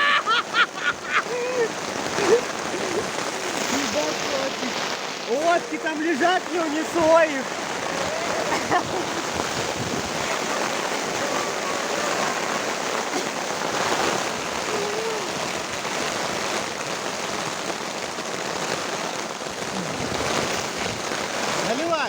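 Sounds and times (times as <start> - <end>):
gusting wind: 0.0 - 22.0
heavy rain: 0.0 - 22.0.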